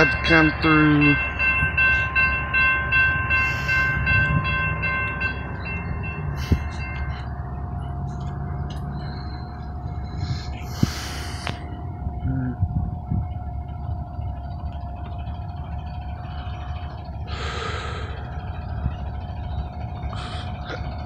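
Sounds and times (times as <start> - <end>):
crossing warning tones: 0.0 - 21.0
freight train rumbling: 0.0 - 21.0
low steady tone: 0.0 - 21.0.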